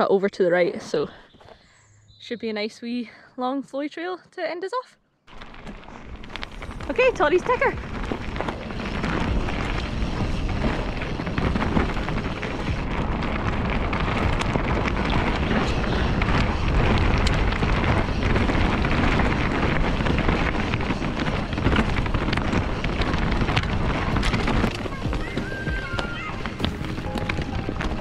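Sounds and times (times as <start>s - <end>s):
bike rattling over bumps: 5.3s - 28.0s
tyres on loose gravel: 5.3s - 28.0s
wind over microphone: 5.3s - 28.0s.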